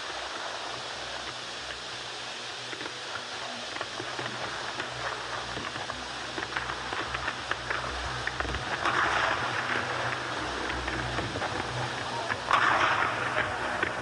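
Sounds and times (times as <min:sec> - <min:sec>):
dark ambient synth music: 0:00.0 - 0:14.0.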